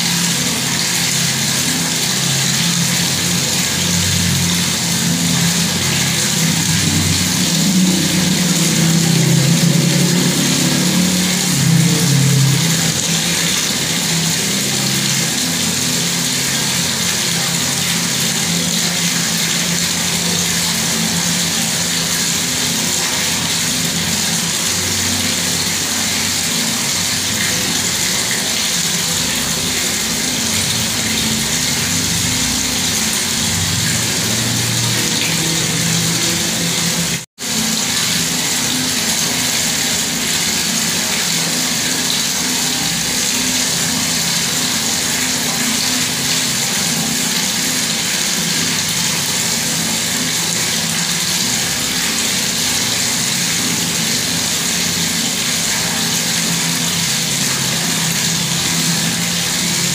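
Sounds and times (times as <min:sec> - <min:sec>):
water tap running: 0:00.0 - 0:59.9.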